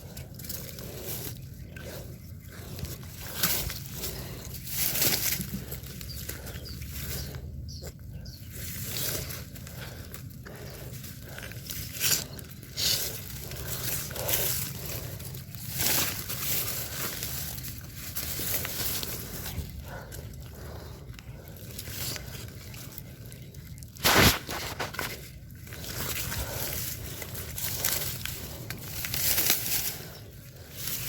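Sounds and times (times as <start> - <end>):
rustling and scraping handling noises: 0.0 - 31.0.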